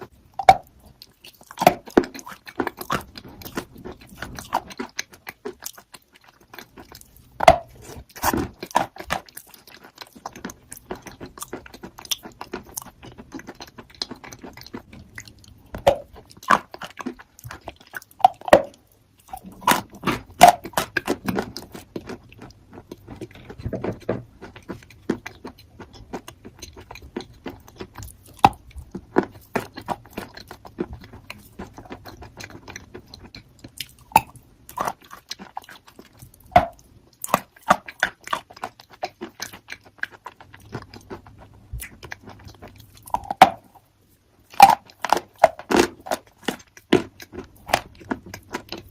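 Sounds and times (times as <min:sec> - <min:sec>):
soft chewing: 0:00.0 - 0:48.9.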